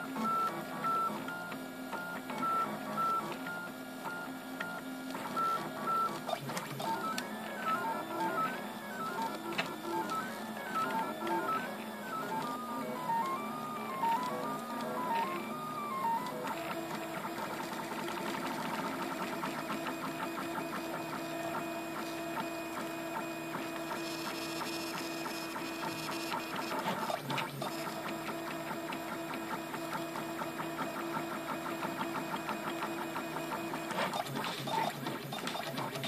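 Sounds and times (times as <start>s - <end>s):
printer stepper motors humming: 0.0s - 36.0s.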